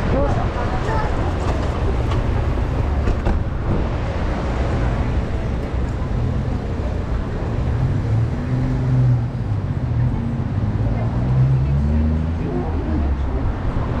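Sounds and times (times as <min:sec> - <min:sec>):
cars rushing by: 0:00.0 - 0:14.0.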